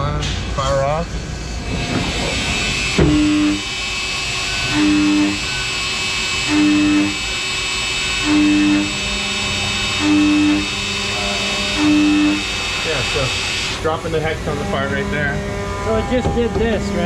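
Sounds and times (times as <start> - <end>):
machine hum and hiss: 0.0 - 17.0
pulsing low drone of milling: 0.0 - 17.0.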